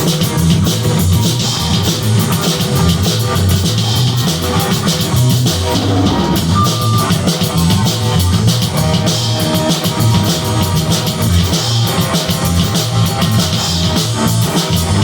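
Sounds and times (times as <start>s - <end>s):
drum kit with cymbal hits: 0.0s - 15.0s
fretless bass: 0.0s - 15.0s.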